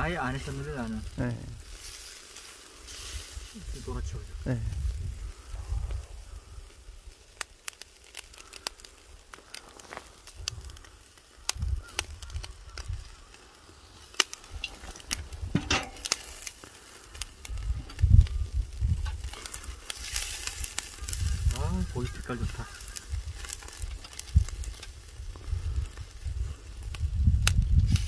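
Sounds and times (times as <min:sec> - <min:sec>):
fire crackling and popping: 0:00.0 - 0:28.0
meat sizzling on a grill: 0:00.0 - 0:28.0.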